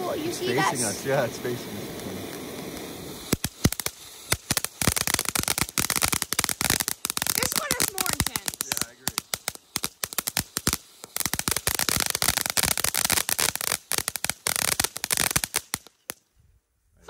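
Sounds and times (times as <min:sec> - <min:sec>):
fireworks crackling and banging: 0:00.0 - 0:16.3.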